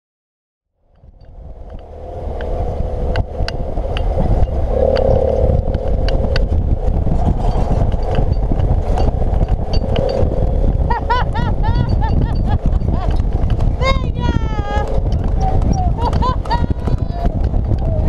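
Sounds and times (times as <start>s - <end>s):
wind rumble: 0.8s - 18.0s.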